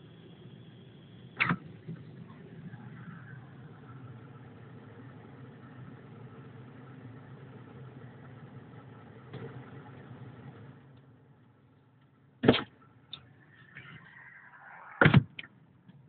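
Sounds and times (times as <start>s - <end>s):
car engine hum from inside: 0.0s - 14.4s.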